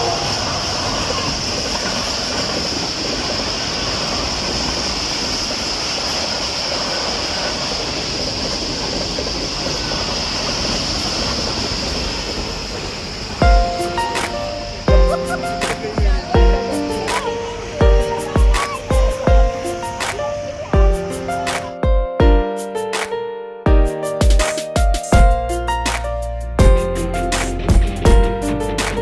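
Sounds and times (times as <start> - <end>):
high hiss: 0.0 - 21.9, 23.9 - 29.0
train rumbling on rails: 0.0 - 22.9, 23.7 - 29.0.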